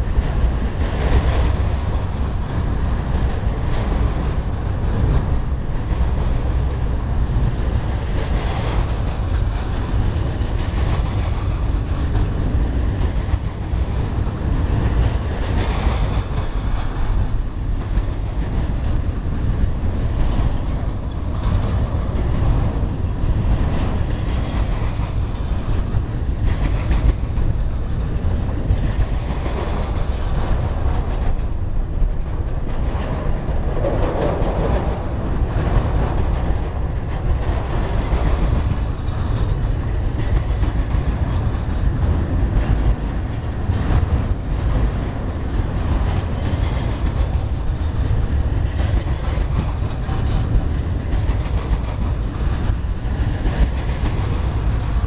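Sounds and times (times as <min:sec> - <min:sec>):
clickety-clack of wheel clicks: 0:00.0 - 0:55.0
freight train rolling past: 0:00.0 - 0:55.0.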